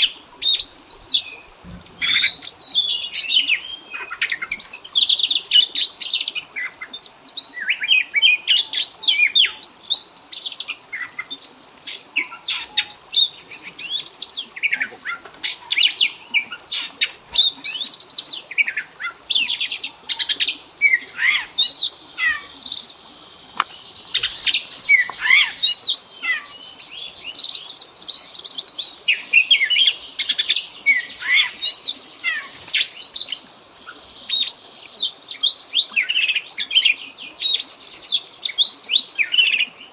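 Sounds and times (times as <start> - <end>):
songbird whistles and trills: 0.0 - 23.0, 23.6 - 39.8.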